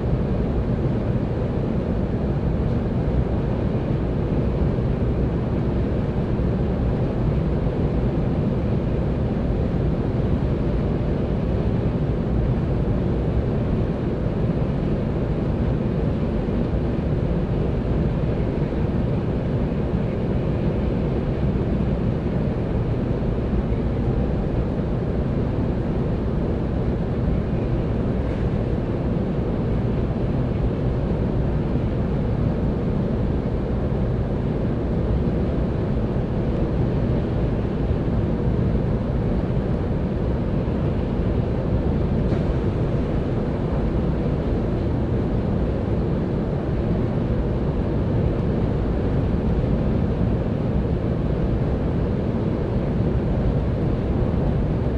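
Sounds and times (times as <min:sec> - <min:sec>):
train rumble inside cabin: 0:00.0 - 0:54.9.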